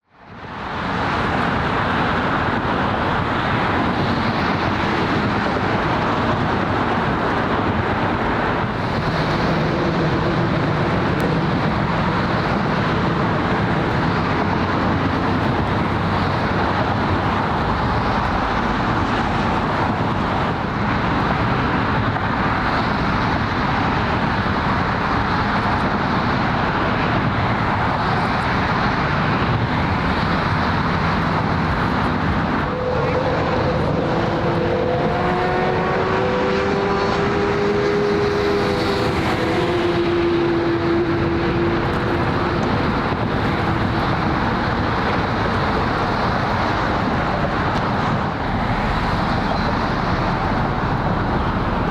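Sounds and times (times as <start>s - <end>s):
rumble of traffic and engines: 0.0s - 51.9s.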